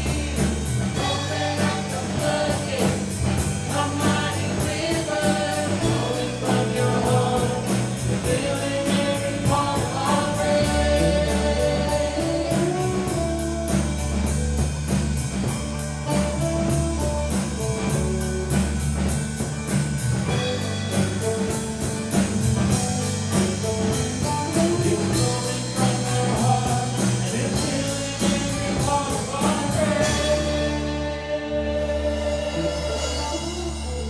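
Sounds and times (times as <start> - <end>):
steady drum beat: 0.0 - 31.4
rock music: 0.0 - 34.0.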